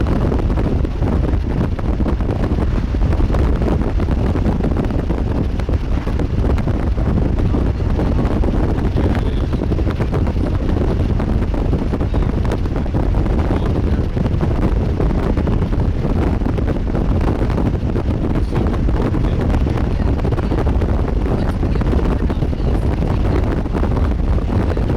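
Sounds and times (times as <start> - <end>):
strong wind buffeting microphone: 0.0 - 24.9.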